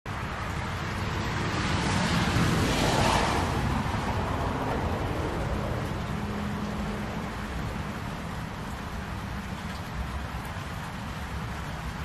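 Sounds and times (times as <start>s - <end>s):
rain falling: 0.1s - 12.0s.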